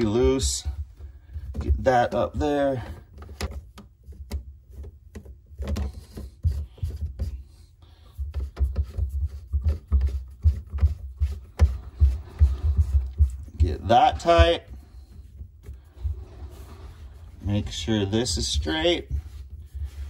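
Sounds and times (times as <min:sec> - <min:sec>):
dull thumps of pipes: 0:00.0 - 0:07.5, 0:08.1 - 0:20.0
plastic rubbing on plastic: 0:00.0 - 0:20.0.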